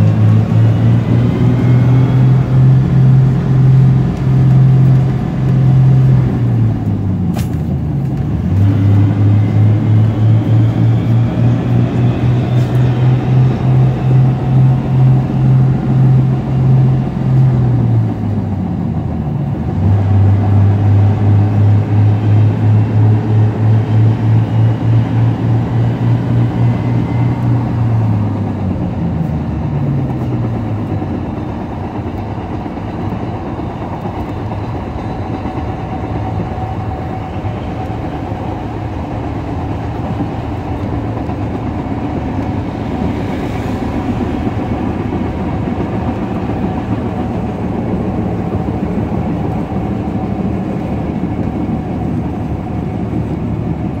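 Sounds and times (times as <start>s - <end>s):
diesel engine throb: 0.0s - 54.0s
train running on rails: 0.0s - 54.0s.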